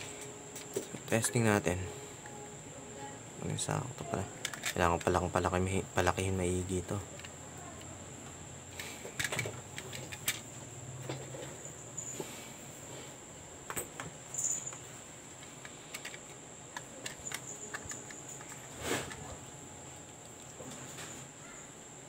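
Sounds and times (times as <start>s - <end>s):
faint high-pitched whine: 0.0s - 22.0s.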